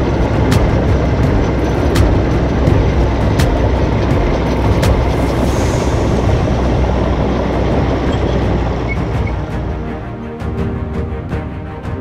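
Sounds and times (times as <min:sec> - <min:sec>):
crawler dozer engine running: 0:00.0 - 0:10.6
steel tracks: 0:00.0 - 0:12.0.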